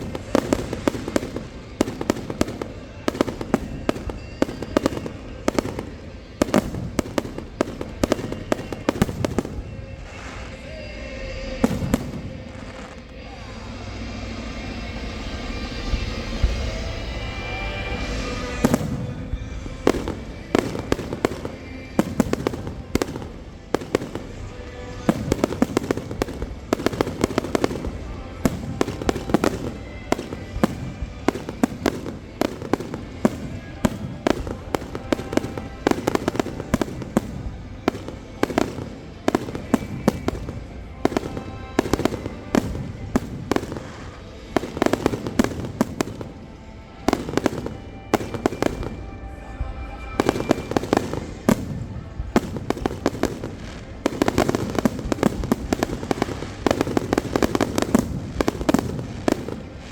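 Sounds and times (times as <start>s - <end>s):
fireworks bangs and pops: 0.0s - 59.9s.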